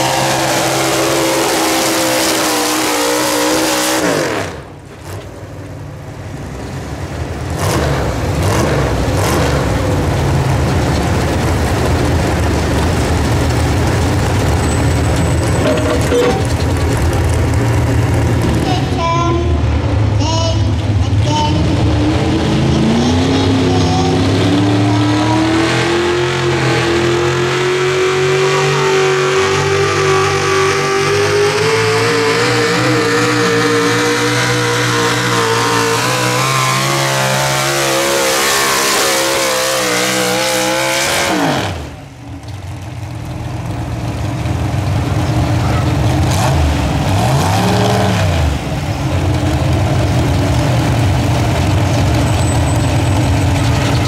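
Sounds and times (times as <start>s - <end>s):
tractor engine at full throttle: 0.0s - 19.0s, 19.6s - 54.0s.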